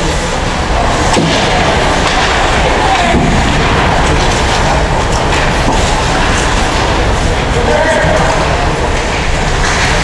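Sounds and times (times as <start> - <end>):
faint voices: 0.0 - 10.0
rumbling din of sports crowd: 0.0 - 10.0.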